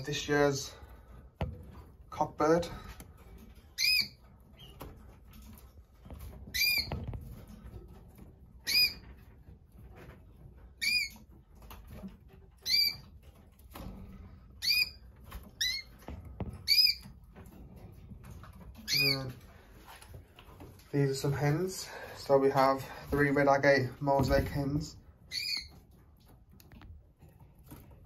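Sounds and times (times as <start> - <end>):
canaries chirping: 0.0 - 28.0.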